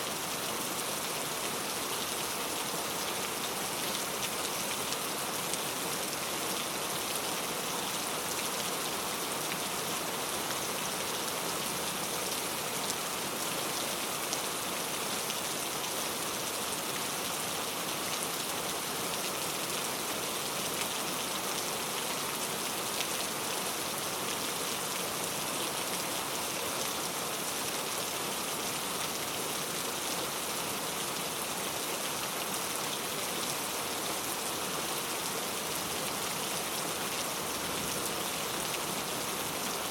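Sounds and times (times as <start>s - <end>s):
very heavy rain falling: 0.0s - 39.9s.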